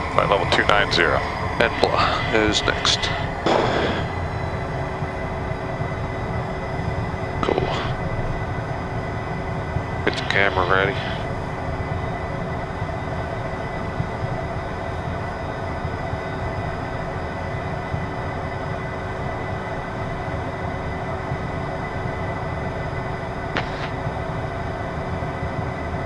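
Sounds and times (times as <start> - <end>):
jet engines idling in cockpit: 0.0 - 26.0.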